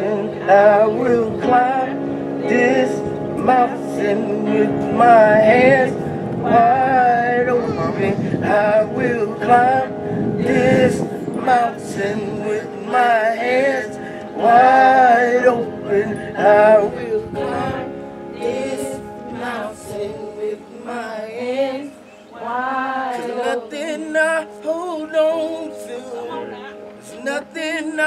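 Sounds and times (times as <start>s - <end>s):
gospel worship singing: 0.0s - 28.0s
sustained held chords: 0.0s - 28.0s.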